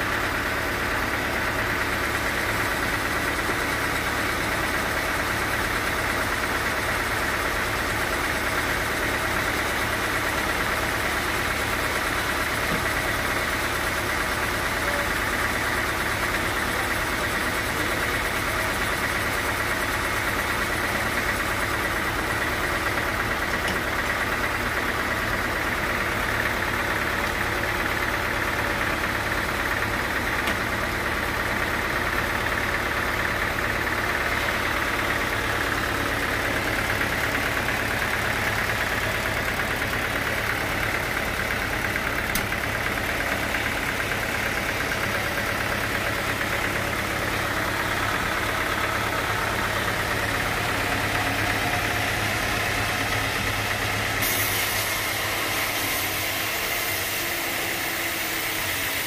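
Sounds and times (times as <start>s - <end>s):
sawmill machine hum: 0.0s - 59.0s.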